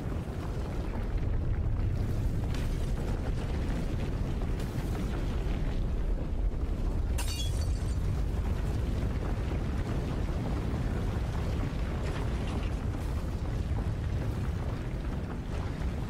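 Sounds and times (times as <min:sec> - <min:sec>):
deep continuous rumbling: 0:00.0 - 0:16.0.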